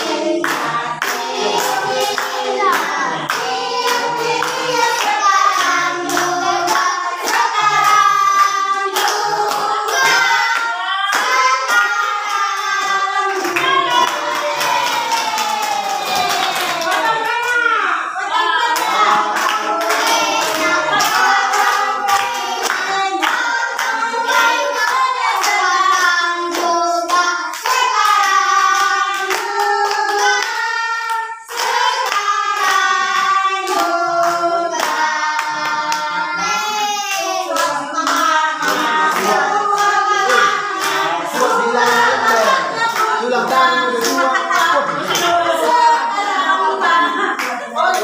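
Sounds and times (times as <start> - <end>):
hands clapping a beat: 0.0 - 17.7, 18.7 - 45.9
adults and children singing: 0.0 - 48.0.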